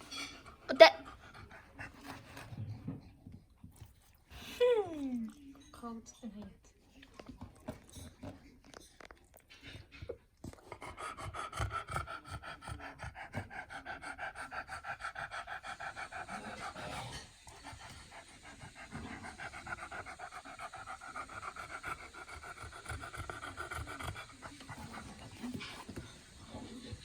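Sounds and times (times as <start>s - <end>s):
dog panting: 0.0s - 27.0s.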